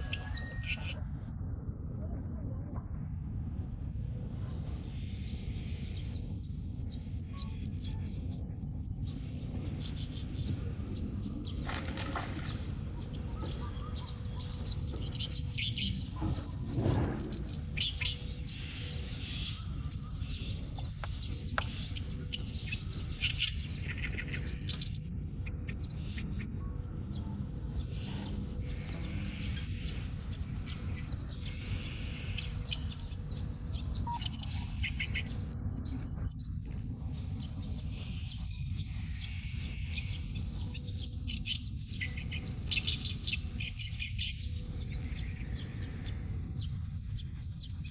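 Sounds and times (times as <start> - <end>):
birds chirping and twittering: 0.0 - 1.3, 3.5 - 47.9
low background rumble: 0.0 - 47.9.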